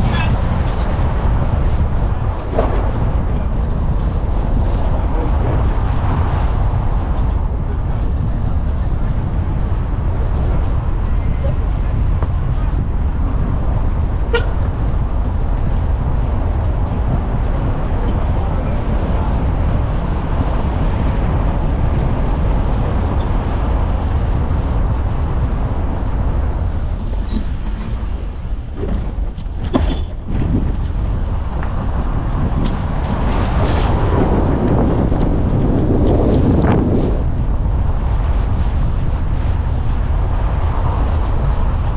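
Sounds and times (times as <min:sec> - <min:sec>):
vehicle road noise: 0:00.0 - 0:41.9.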